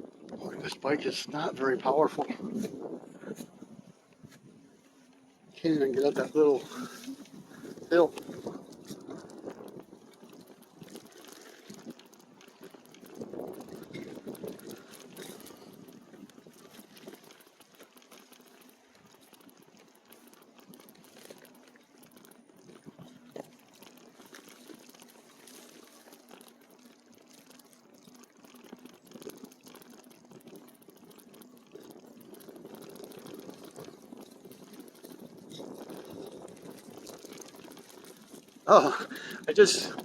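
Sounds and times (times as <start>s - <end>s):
bike tyres crunching rough ground: 0.1s - 40.0s.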